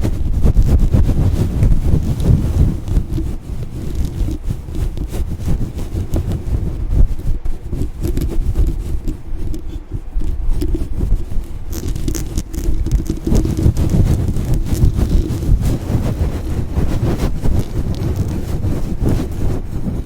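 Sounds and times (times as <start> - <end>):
microphone being brushed and scratched: 0.0 - 20.0.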